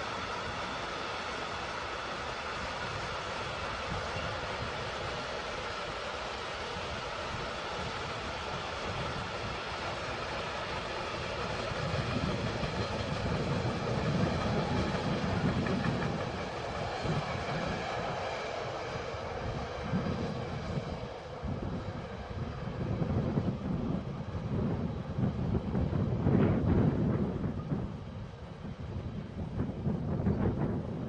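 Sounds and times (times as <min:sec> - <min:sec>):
train rumbling on tracks: 0:00.0 - 0:31.0.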